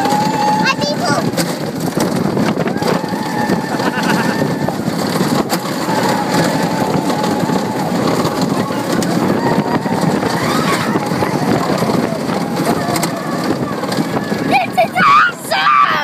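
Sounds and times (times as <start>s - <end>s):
coaster car rumbling on track: 0.0s - 16.0s.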